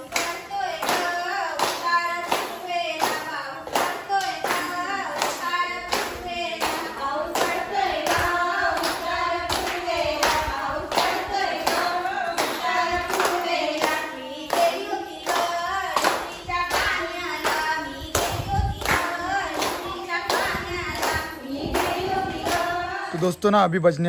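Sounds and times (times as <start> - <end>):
hand-clapping in time: 0.0 - 22.9
women singing together: 0.0 - 23.3.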